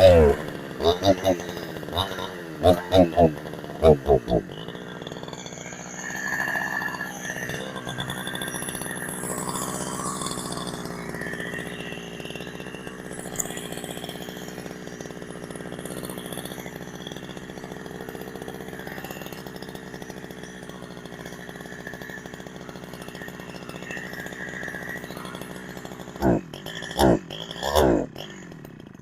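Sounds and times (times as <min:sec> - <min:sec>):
chainsaw idling: 0:00.0 - 0:29.0.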